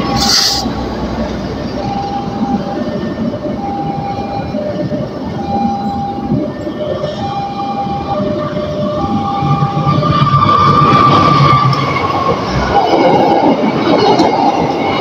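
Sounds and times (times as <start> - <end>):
two-tone warning alarm: 0.0 - 0.7, 1.7 - 15.0
steady high tone: 0.0 - 13.8
train engine rumble: 0.0 - 15.0
train wheels on rails: 0.0 - 15.0.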